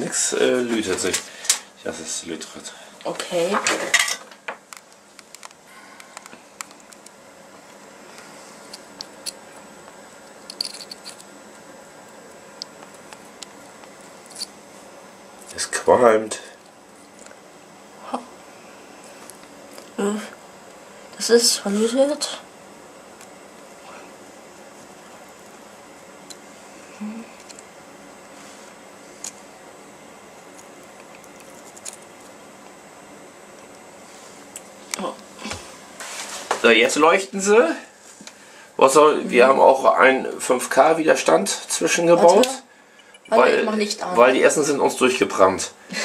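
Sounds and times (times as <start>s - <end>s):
room noise: 0.0s - 46.0s.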